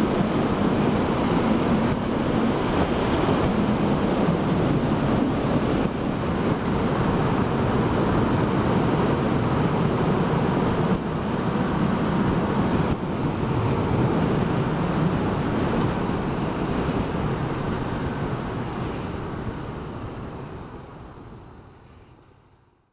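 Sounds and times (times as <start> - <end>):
wind rushing over microphone: 0.0 - 21.8
motorcycle engine and road noise: 0.0 - 22.6.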